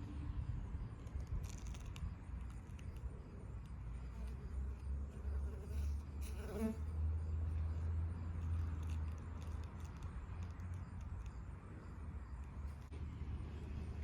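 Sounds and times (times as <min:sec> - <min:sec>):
insects buzzing: 0:00.3 - 0:14.0.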